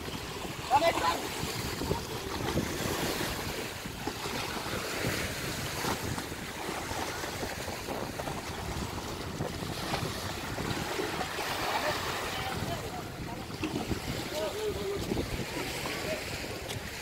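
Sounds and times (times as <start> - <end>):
water lapping and splashing: 0.0 - 17.0
wind buffeting microphone: 0.0 - 17.0.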